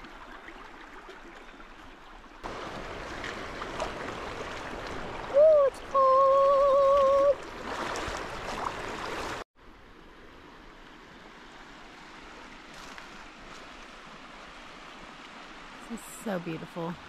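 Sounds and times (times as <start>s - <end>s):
river flowing over gravel: 0.0s - 17.0s.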